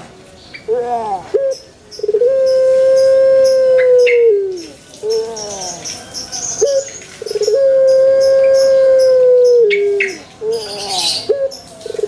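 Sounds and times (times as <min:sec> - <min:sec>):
small birds chirping: 0:00.3 - 0:12.0
dove cooing: 0:00.7 - 0:12.0.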